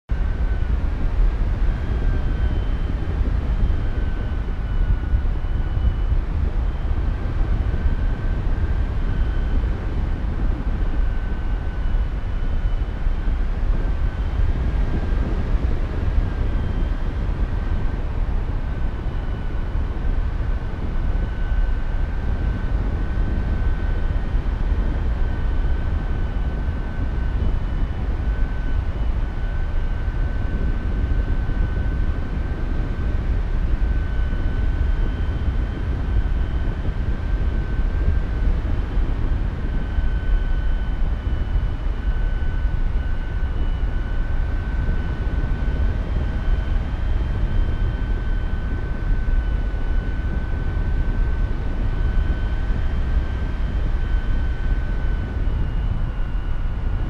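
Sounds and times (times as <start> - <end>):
wind rushing over microphone: 0.1 - 57.0.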